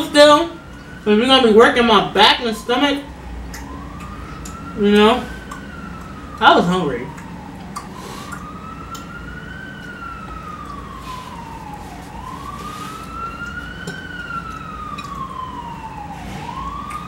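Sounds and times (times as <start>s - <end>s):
emergency vehicle siren wailing: 0.0s - 17.0s.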